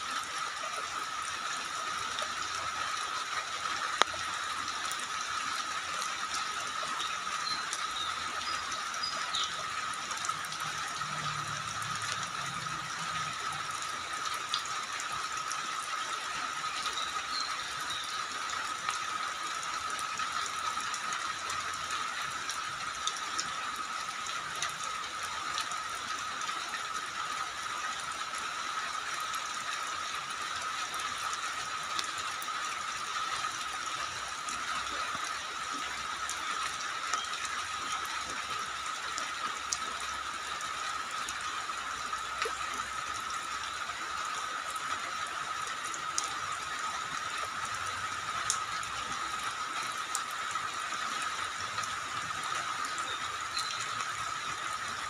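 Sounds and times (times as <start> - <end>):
faint rain ticks: 0.0 - 55.0
steady rain falling: 0.0 - 55.0.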